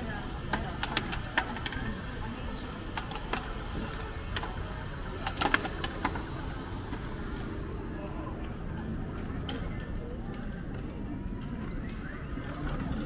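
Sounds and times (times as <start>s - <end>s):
crowd and traffic rumble: 0.0s - 13.0s.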